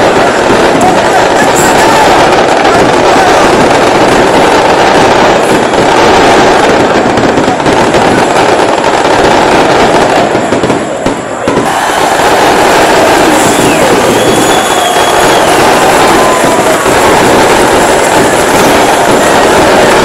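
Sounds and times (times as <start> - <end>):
dense crackle: 0.0 - 20.0
stadium crowd: 0.0 - 20.0.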